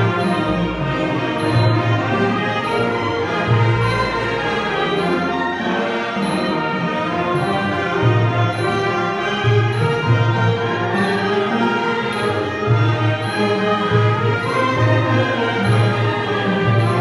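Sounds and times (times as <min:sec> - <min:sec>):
wind band playing: 0:00.0 - 0:17.0.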